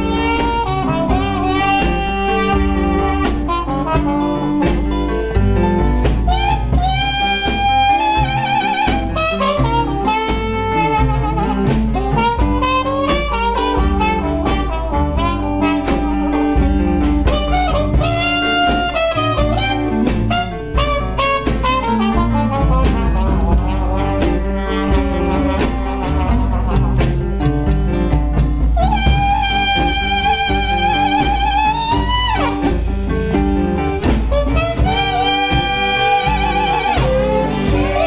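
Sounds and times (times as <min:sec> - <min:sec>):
muted trumpet solo: 0:00.0 - 0:05.0, 0:06.2 - 0:27.2, 0:28.8 - 0:33.0, 0:34.0 - 0:38.0
big band boogie-woogie: 0:00.0 - 0:38.0.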